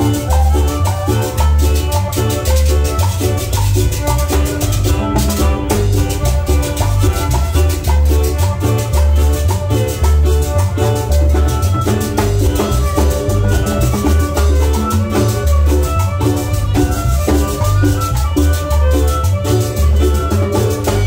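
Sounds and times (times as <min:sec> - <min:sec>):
latin dance band playing: 0:00.0 - 0:21.0.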